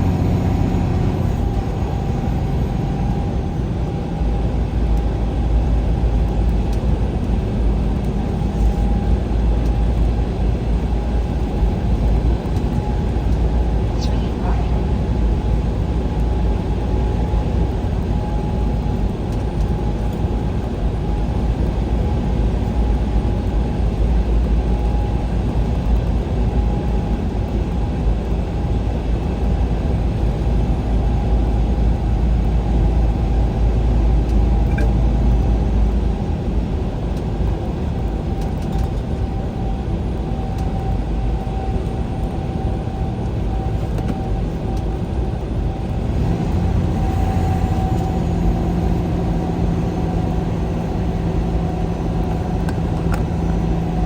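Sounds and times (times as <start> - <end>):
vehicle engine and tyre noise: 0.0 - 54.0.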